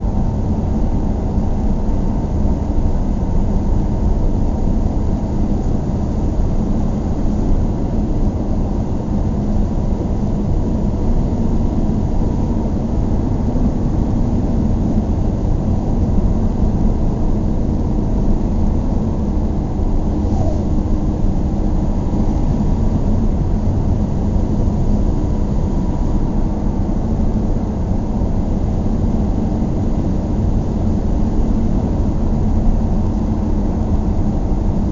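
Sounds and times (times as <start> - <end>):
car road and engine rumble: 0.0 - 34.9.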